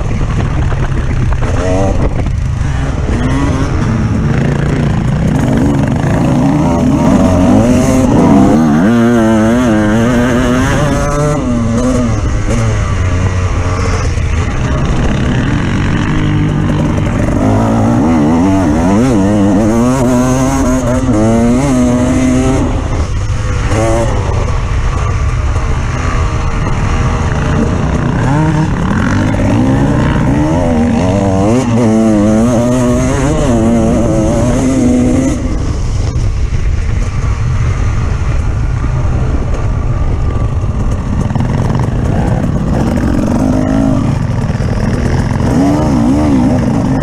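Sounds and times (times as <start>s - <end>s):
off-road vehicle engine revving: 1.4s - 24.6s, 26.0s - 35.7s, 41.3s - 47.0s.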